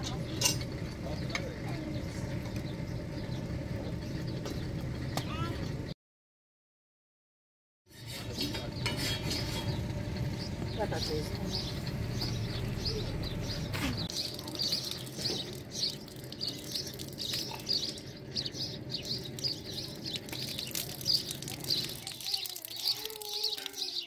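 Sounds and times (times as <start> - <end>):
small birds chirping: 0.0 - 6.0, 7.9 - 24.0.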